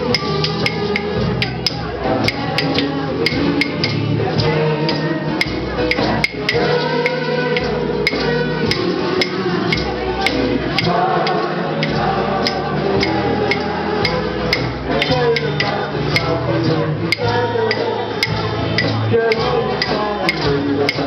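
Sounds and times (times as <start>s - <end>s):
guitar: 0.0s - 21.0s
kitchen utensils clicking a beat: 0.0s - 21.0s.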